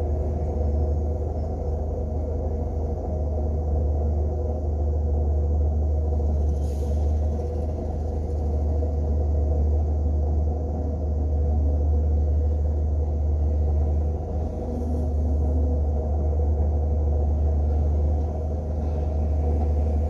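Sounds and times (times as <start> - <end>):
motor vehicle rumble: 0.0 - 20.0.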